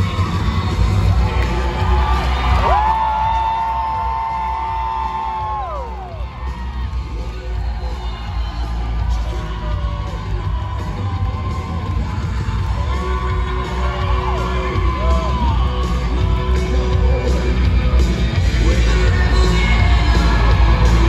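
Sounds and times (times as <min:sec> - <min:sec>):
crowd yelling and whooping: 0:00.0 - 0:21.0
loud bass-heavy music: 0:00.0 - 0:21.0.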